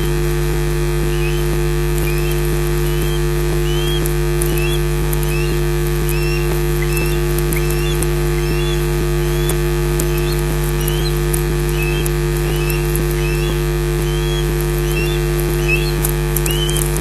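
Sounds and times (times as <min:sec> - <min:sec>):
faint crackling clicks: 0:00.0 - 0:17.0
loud electrical hum: 0:00.0 - 0:17.0
osprey whistled chirps: 0:01.0 - 0:17.0.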